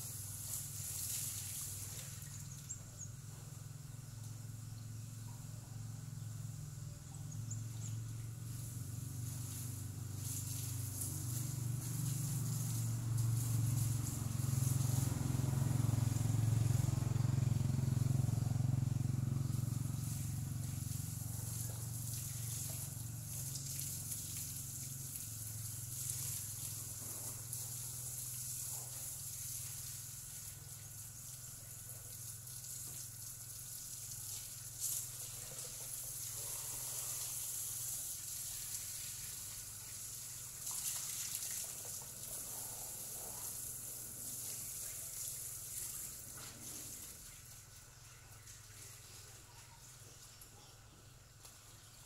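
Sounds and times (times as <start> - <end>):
faint outdoor hiss: 0.0 - 52.0
low mechanical hum: 0.0 - 52.0.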